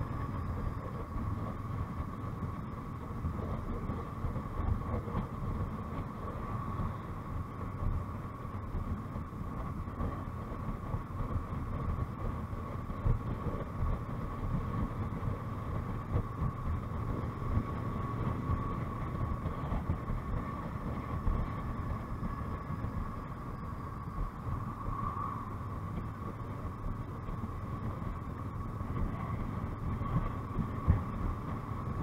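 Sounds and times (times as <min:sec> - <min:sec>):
motorcycle engine drone: 0:00.0 - 0:32.0
thin whine: 0:00.0 - 0:32.0
wind and road noise: 0:00.0 - 0:32.0.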